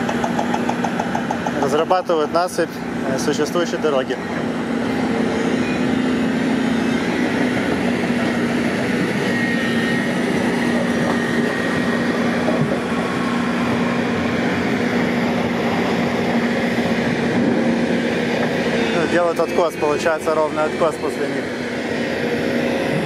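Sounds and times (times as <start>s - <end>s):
diesel machinery engine drone: 0.0s - 23.0s.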